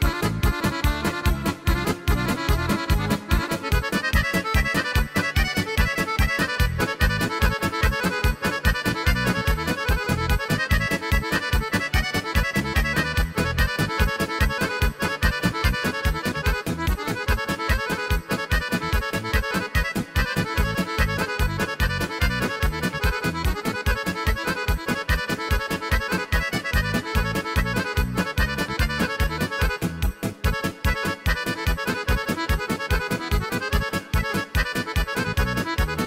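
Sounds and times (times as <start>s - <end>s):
accordion folk music: 0.0s - 36.0s.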